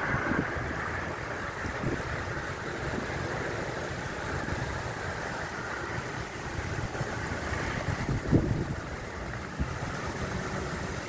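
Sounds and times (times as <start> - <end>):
strong wind through trees: 0.0 - 11.0
wind buffeting microphone: 0.0 - 11.0.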